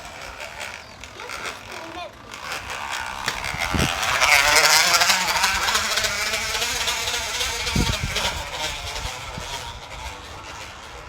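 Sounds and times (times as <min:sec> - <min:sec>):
plastic bottle flapping on spokes: 0:00.0 - 0:11.0.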